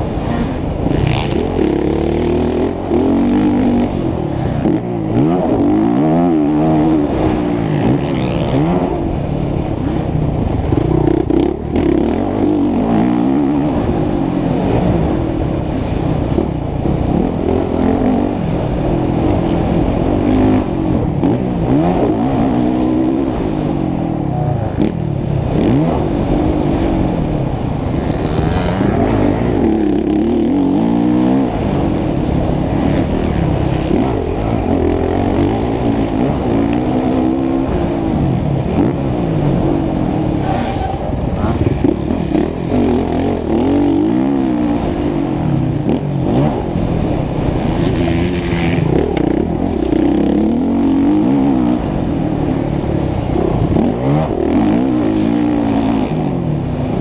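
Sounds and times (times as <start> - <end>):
motocross bike engine revving: 0.0 - 23.8, 24.7 - 57.0.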